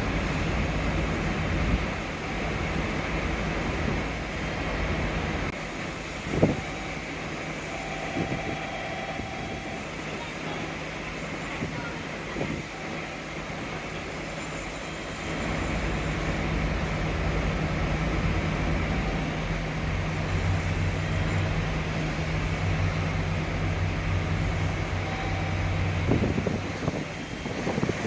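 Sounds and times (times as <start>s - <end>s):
train hum and rumble: 0.0s - 28.0s.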